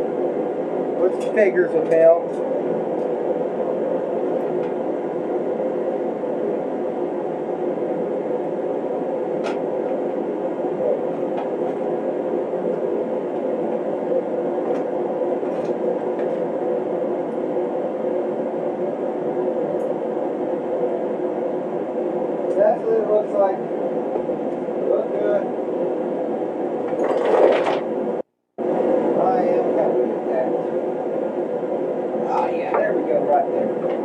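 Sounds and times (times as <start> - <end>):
space heater blowing: 0.0 - 34.0.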